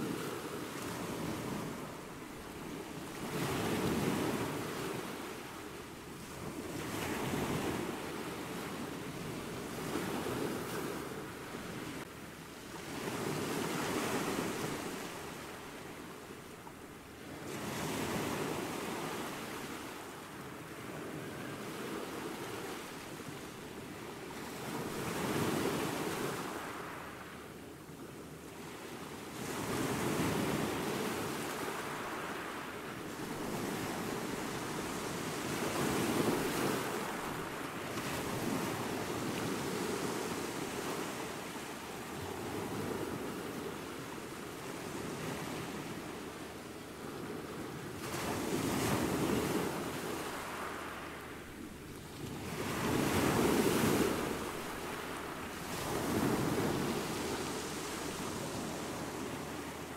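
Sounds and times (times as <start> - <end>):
small waves breaking on sand: 0.0 - 59.9.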